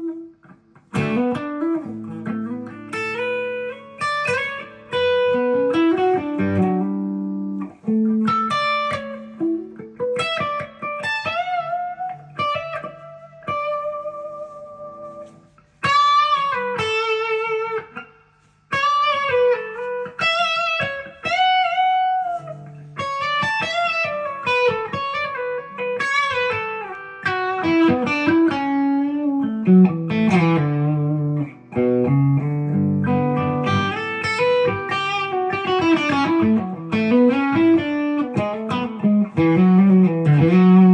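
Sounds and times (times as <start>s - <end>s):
electric guitar lead line: 0.0s - 18.1s, 18.7s - 40.9s.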